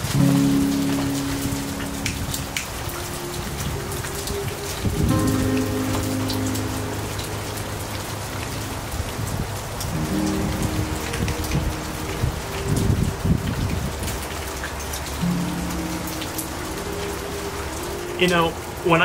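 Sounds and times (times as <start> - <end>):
rain drips and patters: 0.0 - 19.0
soft music of held chords: 0.0 - 19.0
steady rain hiss: 0.0 - 19.0.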